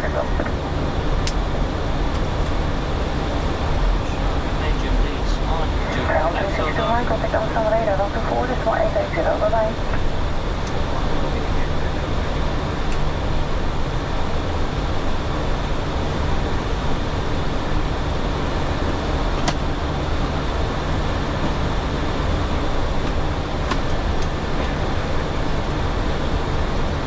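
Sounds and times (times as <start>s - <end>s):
jet engines droning: 0.0s - 27.0s.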